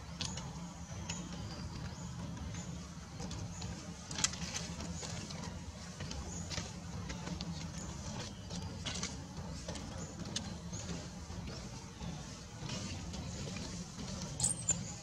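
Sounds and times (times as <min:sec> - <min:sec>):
faint clicks and rustles: 0:00.0 - 0:15.0
steady low rumble: 0:00.0 - 0:15.0.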